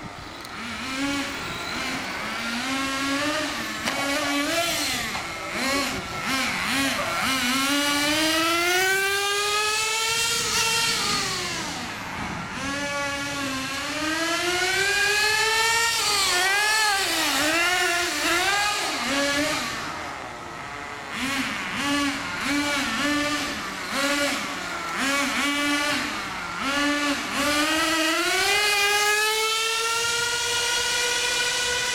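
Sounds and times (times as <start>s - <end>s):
rc car motor whine: 0.0s - 31.9s.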